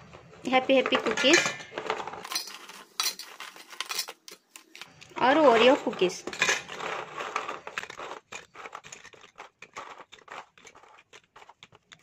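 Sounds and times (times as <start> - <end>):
cookies clattering into metal jar: 0.0 - 12.0.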